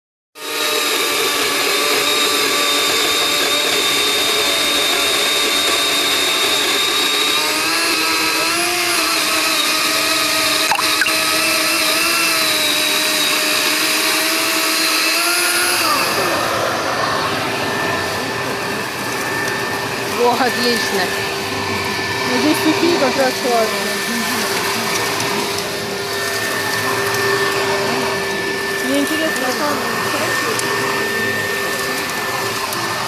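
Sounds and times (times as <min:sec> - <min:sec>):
garden vacuum motor whining: 0:00.4 - 0:33.0.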